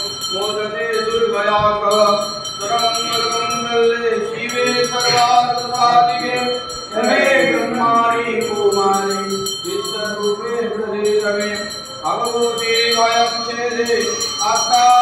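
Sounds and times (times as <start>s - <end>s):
hand bell ringing: 0.0s - 15.0s
men chanting a hymn: 0.0s - 15.0s.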